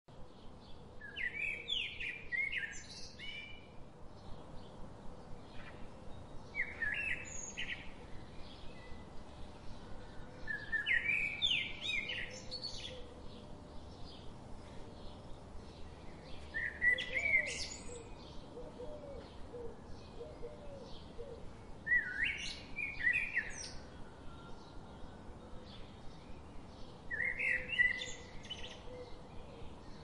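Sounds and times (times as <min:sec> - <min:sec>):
songbird chirping: 0:00.1 - 0:30.0.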